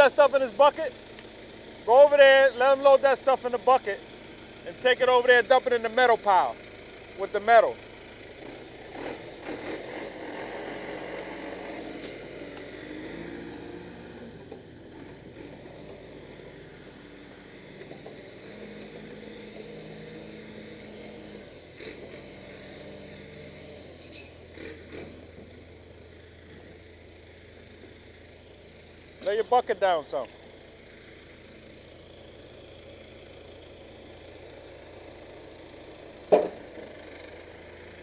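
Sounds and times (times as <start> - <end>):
backhoe diesel engine running: 0.0 - 38.0.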